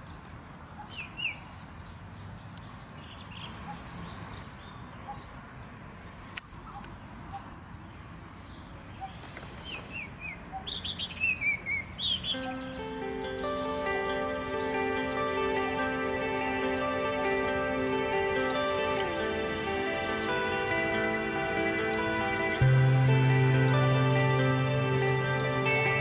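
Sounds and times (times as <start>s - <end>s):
birds chirping: 0.0s - 26.0s
faint low background noise: 0.0s - 26.0s.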